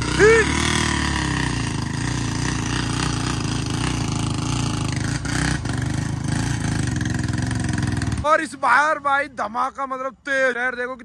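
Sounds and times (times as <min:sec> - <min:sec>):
motorcycle engines labouring: 0:00.0 - 0:11.0.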